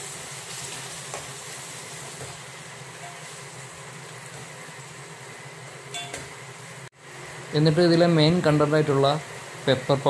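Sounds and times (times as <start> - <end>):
onions and tomatoes sizzling: 0.0 - 10.0.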